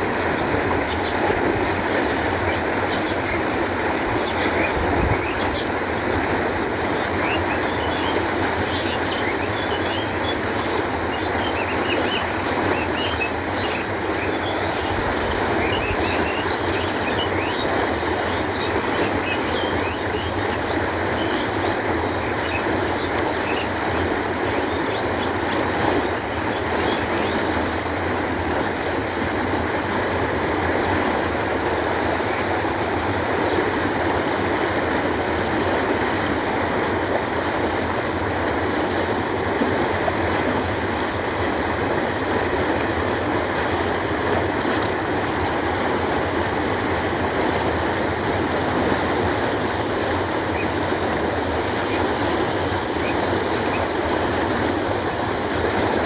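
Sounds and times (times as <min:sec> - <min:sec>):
canal water flowing: 0:00.0 - 0:56.0.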